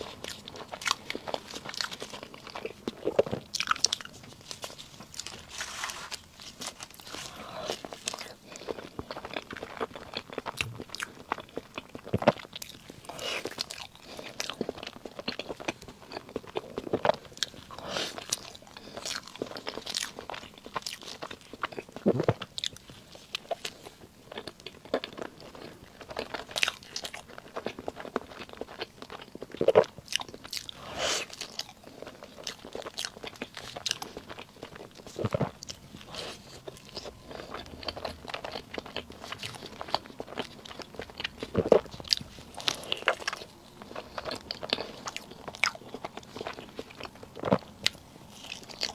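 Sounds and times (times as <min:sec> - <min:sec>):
person chewing soft cake: 0:00.0 - 0:48.9.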